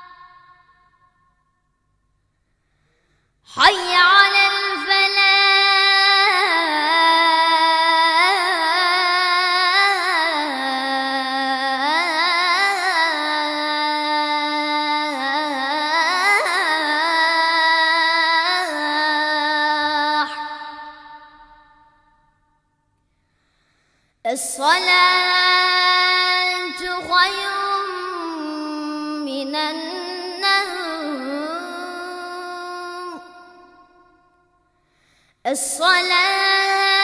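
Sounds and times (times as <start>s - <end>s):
boy chanting call to prayer: 0.0s - 0.8s, 3.5s - 22.0s, 24.3s - 34.4s, 35.5s - 37.0s.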